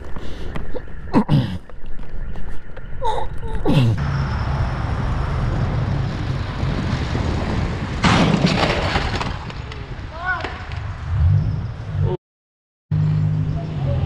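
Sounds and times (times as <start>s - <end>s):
road and wind noise: 0.0s - 12.2s, 12.9s - 14.0s.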